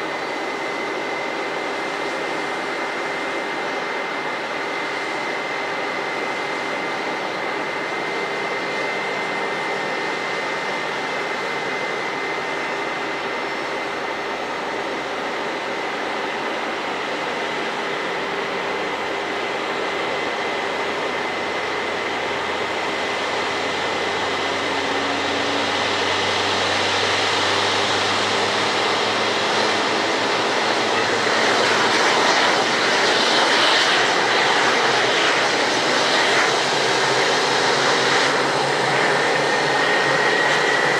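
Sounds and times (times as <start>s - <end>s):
jet engine whine: 0.0s - 40.9s
jet roar: 0.0s - 40.9s.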